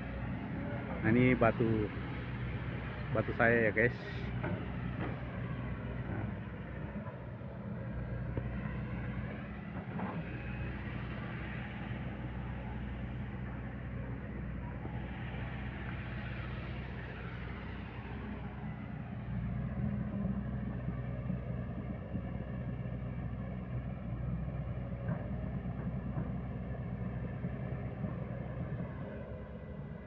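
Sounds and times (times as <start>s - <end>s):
excavator diesel engine humming: 0.0s - 30.0s.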